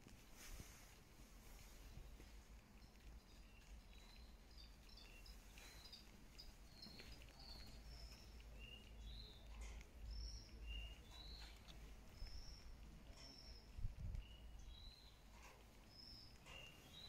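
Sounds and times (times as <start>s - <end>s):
faint bird chirps: 1.4s - 17.0s.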